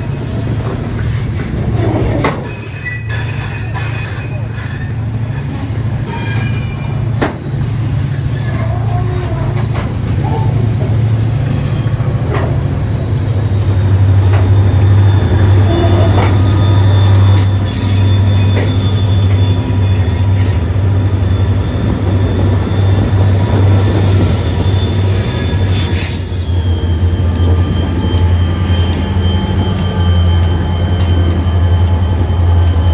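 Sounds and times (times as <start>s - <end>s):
freight train rumbling past: 0.0s - 32.9s
wheel squeals: 0.1s - 32.9s.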